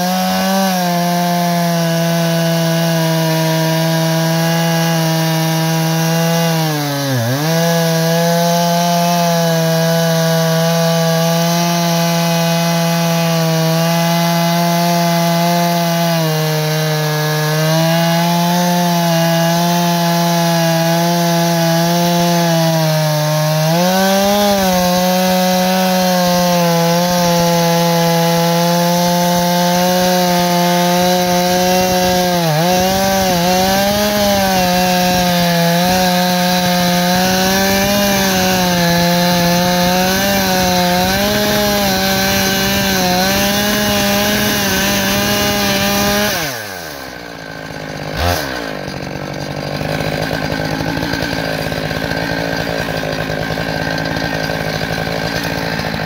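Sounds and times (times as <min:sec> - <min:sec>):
chainsaw ripping a log: 0:00.0 - 0:56.0.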